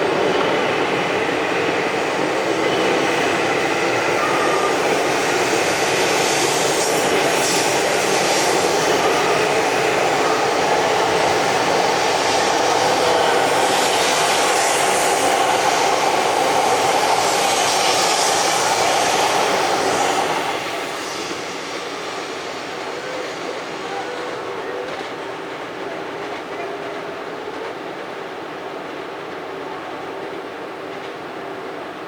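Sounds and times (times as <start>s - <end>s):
train rushing past: 0.0s - 32.0s.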